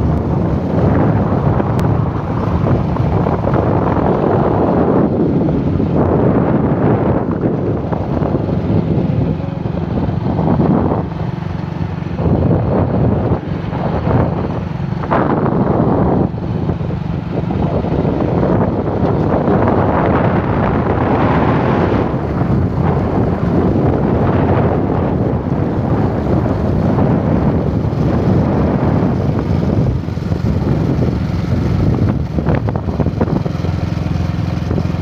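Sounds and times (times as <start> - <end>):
motorcycle engine running: 0.0 - 35.0
wind rushing over microphone: 0.0 - 35.0.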